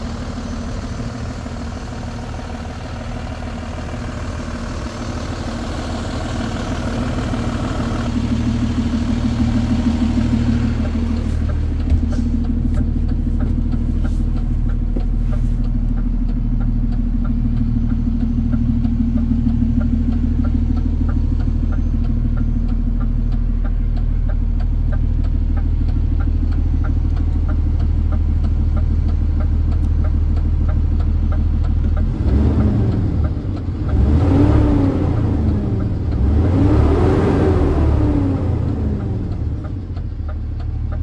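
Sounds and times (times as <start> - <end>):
diesel truck engine idling and revving: 0.0 - 41.0.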